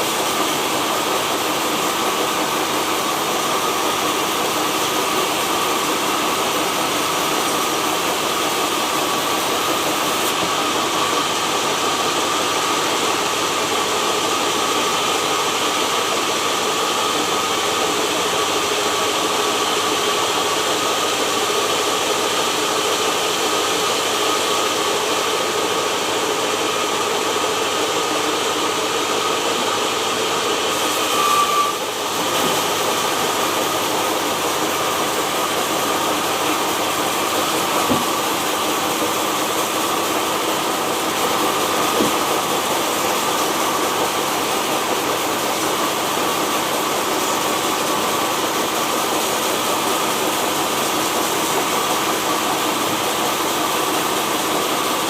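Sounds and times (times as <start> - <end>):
sawmill saw whining: 0.0 - 55.0.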